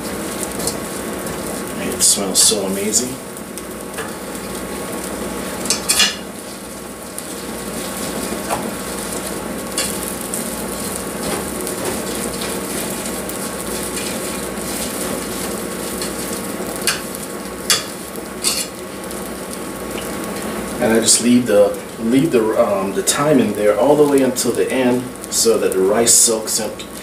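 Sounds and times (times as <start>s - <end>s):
rice sizzling: 0.0s - 27.0s.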